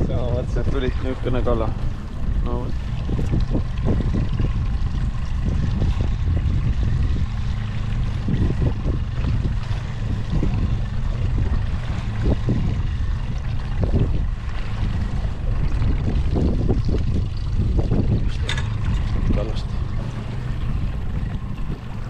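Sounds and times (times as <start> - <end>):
outboard motor running: 0.0 - 22.0
water slapping against hull: 0.0 - 22.0
wind noise: 0.0 - 22.0.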